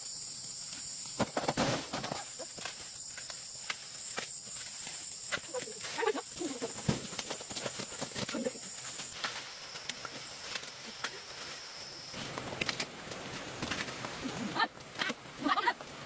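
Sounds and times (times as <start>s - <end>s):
dry corn plants crackling: 0.0s - 16.0s
insects chirring: 0.0s - 16.0s.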